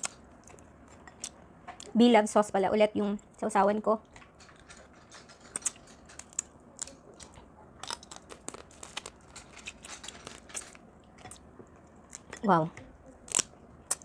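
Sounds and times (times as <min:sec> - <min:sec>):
person chewing food: 0:00.0 - 0:01.9, 0:04.0 - 0:14.0.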